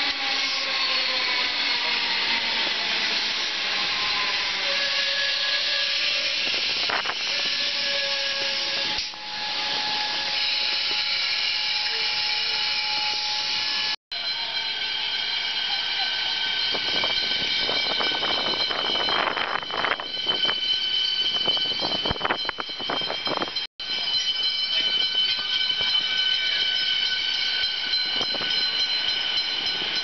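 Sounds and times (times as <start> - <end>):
electric train whining tones: 0.0 - 30.0
wheels rushing on rails: 0.0 - 30.0.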